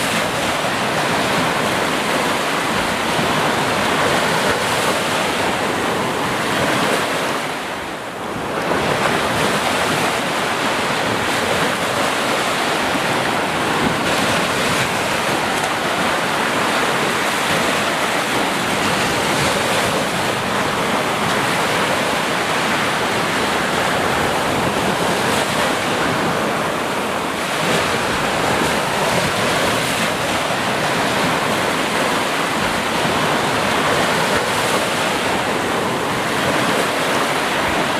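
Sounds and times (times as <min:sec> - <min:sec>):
breaking sea waves: 0:00.0 - 0:37.9.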